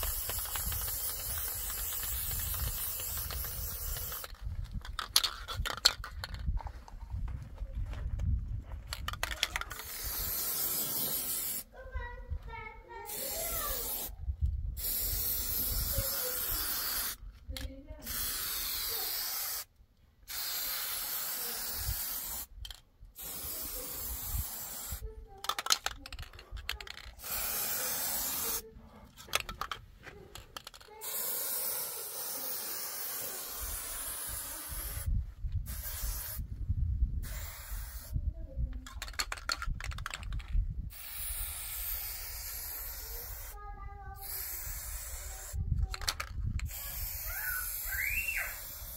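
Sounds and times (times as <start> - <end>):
spray paint can hissing: 0.0 - 6.4, 8.9 - 11.7, 13.1 - 14.2, 14.8 - 19.7, 20.3 - 28.6, 30.3 - 36.4, 37.2 - 38.2, 38.8 - 43.6, 44.2 - 48.9.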